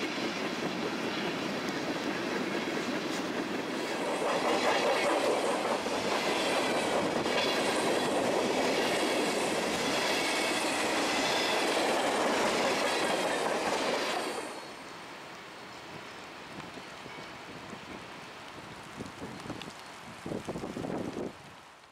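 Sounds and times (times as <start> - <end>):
train wheels running on rails: 0.0 - 18.2.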